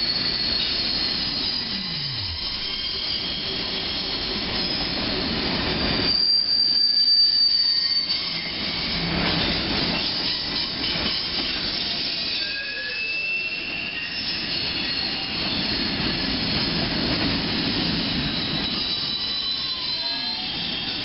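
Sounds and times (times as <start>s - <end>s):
steel wheels squealing: 0.0s - 21.0s.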